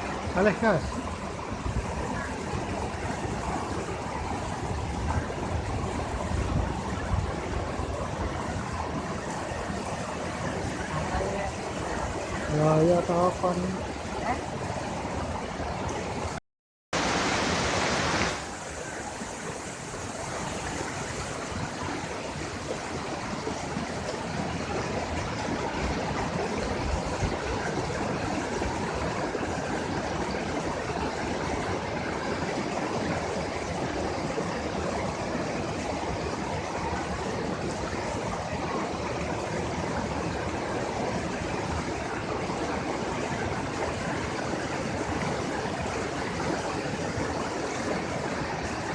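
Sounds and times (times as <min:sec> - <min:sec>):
waterfall roaring: 0:00.0 - 0:16.4, 0:17.0 - 0:48.9.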